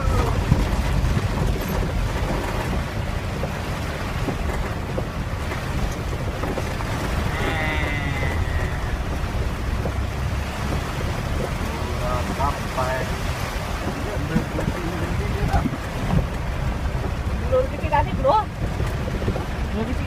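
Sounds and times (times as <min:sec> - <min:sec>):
heavy rain falling: 0:00.0 - 0:20.0
wind buffeting microphone: 0:00.0 - 0:20.0.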